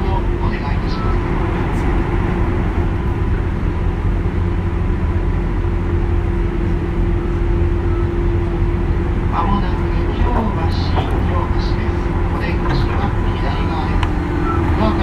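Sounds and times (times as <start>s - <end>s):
train hum: 0.0s - 15.0s
train wheels rumbling on track: 0.0s - 15.0s.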